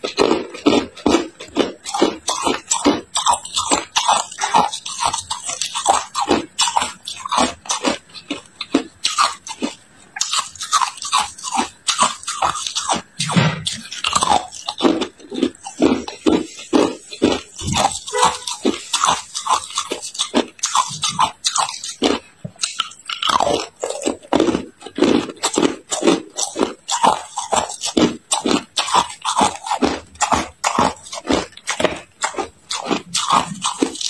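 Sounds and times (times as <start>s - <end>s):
ice crunching while chewed: 0.0s - 34.0s.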